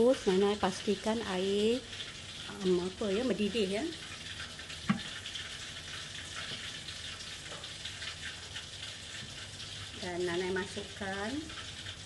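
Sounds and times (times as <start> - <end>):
water boiling: 0.0 - 12.0.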